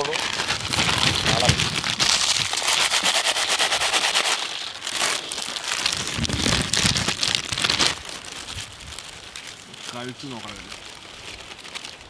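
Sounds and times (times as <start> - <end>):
foil packets crinkling: 0.0 - 12.0
potato chips crackling on steel tray: 0.0 - 12.0.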